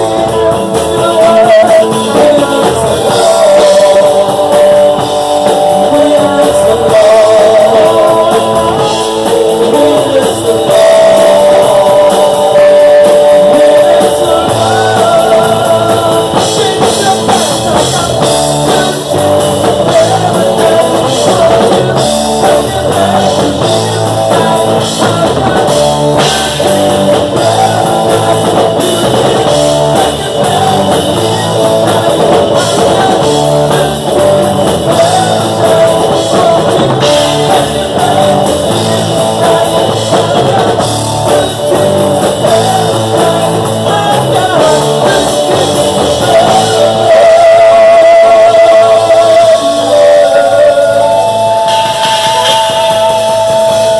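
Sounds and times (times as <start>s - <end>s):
drums: 0.0s - 53.9s
guitar: 0.0s - 53.9s
man singing into a microphone: 0.0s - 53.9s.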